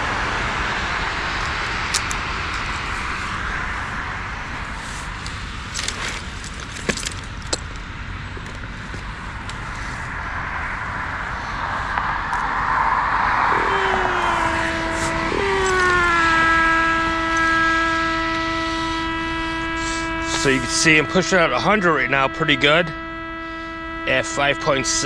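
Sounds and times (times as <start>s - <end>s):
passing traffic: 0.0s - 25.0s
steady pitched tone: 0.0s - 25.0s.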